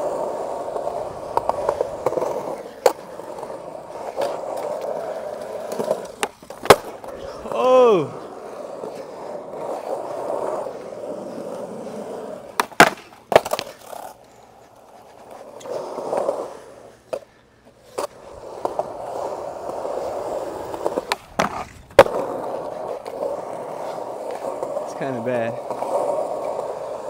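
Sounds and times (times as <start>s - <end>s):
skateboard cracks and clatters: 0.0s - 17.3s, 17.9s - 27.0s
skateboard wheels rolling on concrete: 0.0s - 27.0s.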